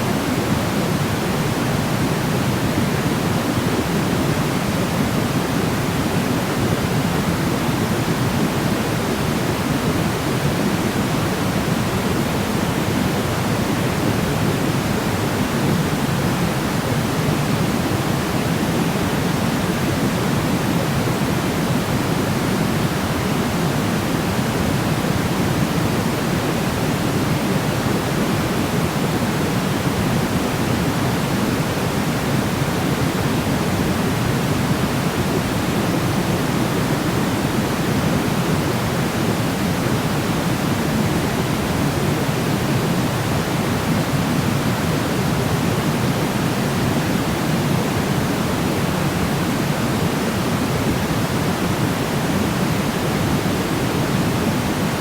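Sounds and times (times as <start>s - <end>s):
steady pink noise hiss: 0.0s - 55.0s.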